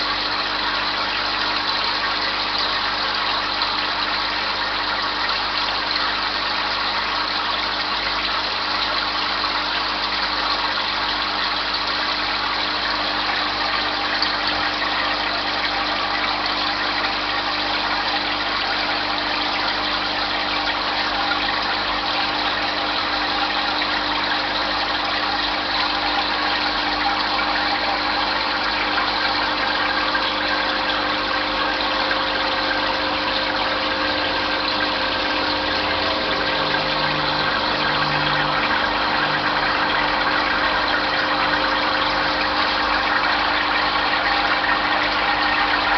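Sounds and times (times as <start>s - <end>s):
aquarium pump humming and hissing: 0.0s - 45.9s.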